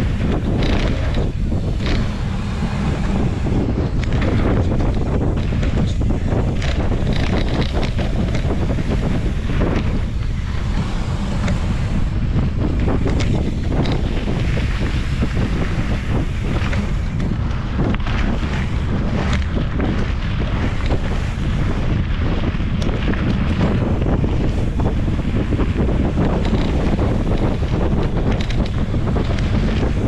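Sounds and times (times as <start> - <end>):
bike clicks and knocks: 0.0 - 30.0
tyres rolling over gravel: 0.0 - 30.0
wind buffeting microphone: 0.0 - 30.0.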